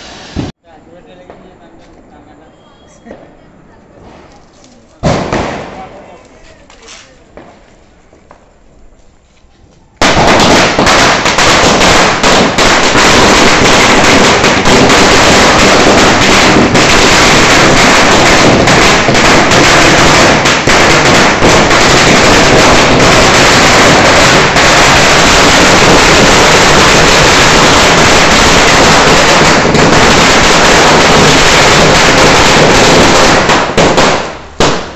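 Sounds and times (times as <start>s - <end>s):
firecrackers banging: 0.0s - 34.9s.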